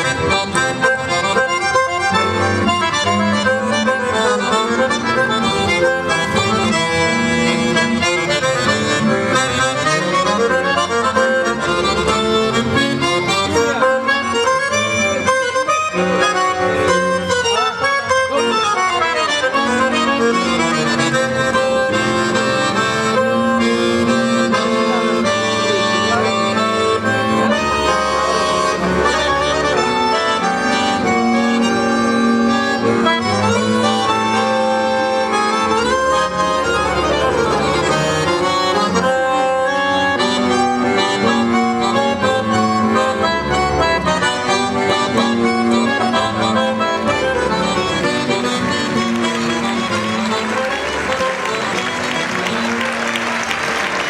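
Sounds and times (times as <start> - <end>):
reed instruments folk melody: 0.0 - 54.0.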